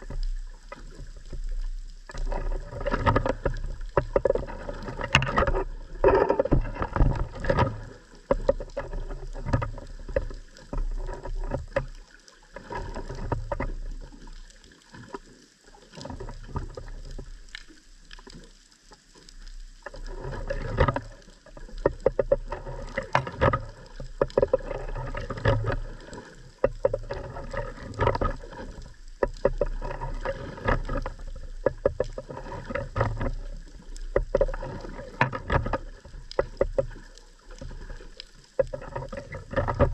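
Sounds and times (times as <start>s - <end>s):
underwater crackling clicks: 0.0s - 39.9s.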